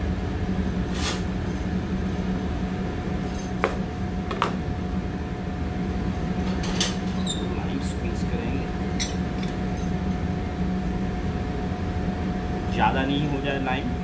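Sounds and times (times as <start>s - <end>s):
kitchen machinery drone: 0.0s - 14.0s.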